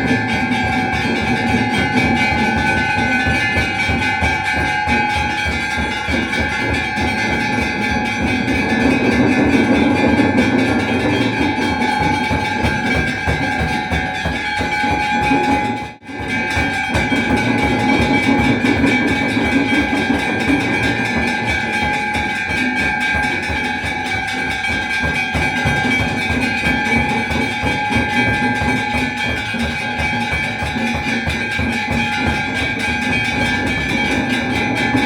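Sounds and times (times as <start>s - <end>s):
bells struck rapidly: 0.0s - 35.0s
drums beating rapidly: 0.0s - 35.0s
steady ringing tones: 0.0s - 35.0s.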